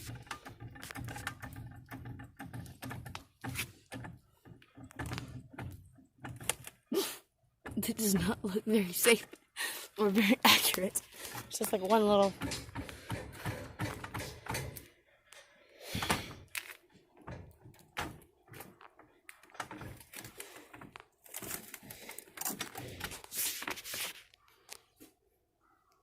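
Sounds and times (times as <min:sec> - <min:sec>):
knocks and clicks: 0:00.0 - 0:06.9, 0:07.5 - 0:09.5, 0:10.7 - 0:23.3
rubbing and scraping: 0:00.0 - 0:07.0, 0:07.7 - 0:24.8.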